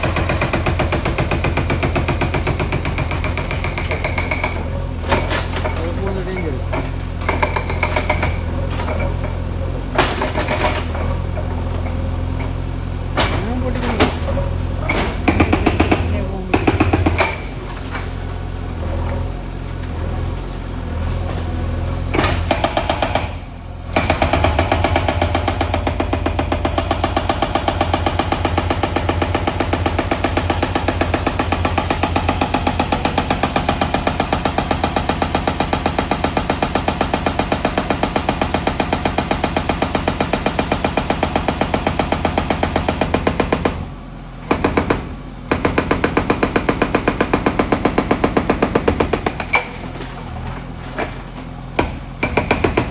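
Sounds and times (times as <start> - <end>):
hydraulic breaker hammering: 0.0 - 19.3, 22.0 - 52.9
diesel engine running: 0.0 - 52.9.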